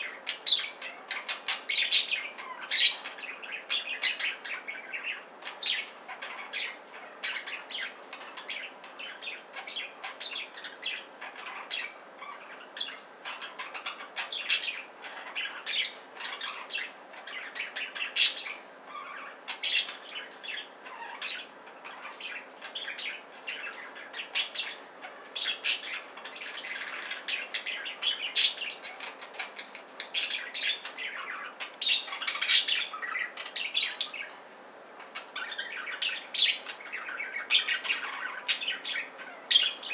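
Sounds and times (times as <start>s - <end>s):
budgerigars chirping and chattering: 0.0s - 34.4s, 35.0s - 39.9s.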